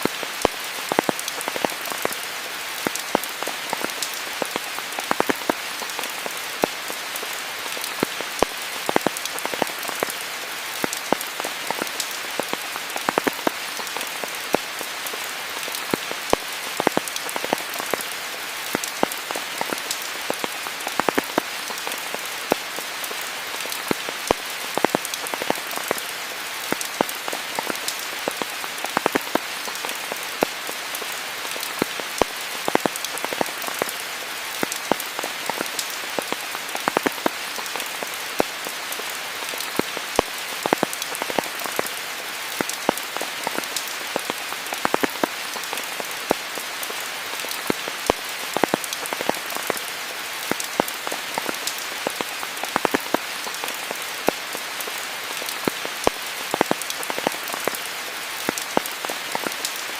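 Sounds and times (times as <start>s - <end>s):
rain on foliage: 0.0s - 59.9s
sharp raindrop impacts: 0.0s - 59.9s.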